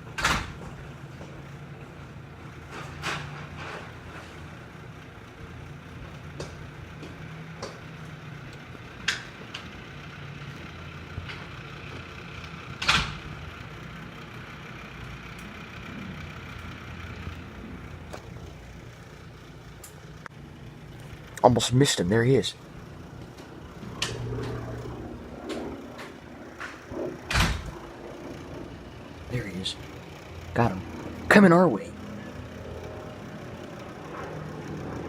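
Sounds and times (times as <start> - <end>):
distant propeller aircraft drone: 0.0 - 35.0.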